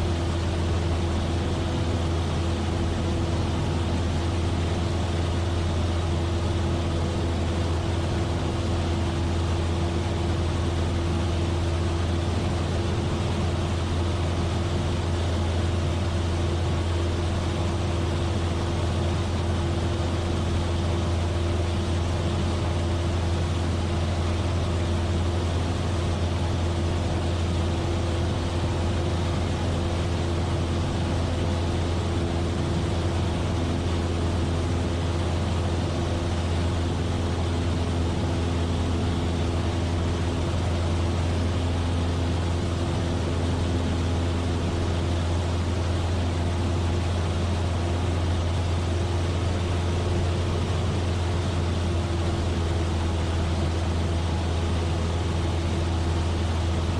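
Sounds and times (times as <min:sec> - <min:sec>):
light aircraft cabin drone: 0:00.0 - 0:56.9.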